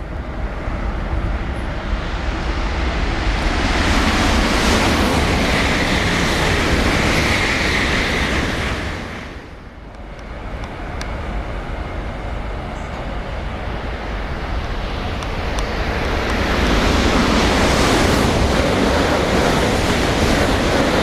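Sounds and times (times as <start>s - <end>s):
bullet train rushing past: 0.0s - 21.0s.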